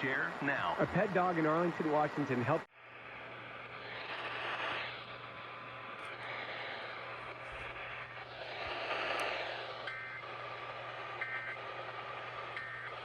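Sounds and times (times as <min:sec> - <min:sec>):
steady noisy hiss: 0:00.0 - 0:13.0.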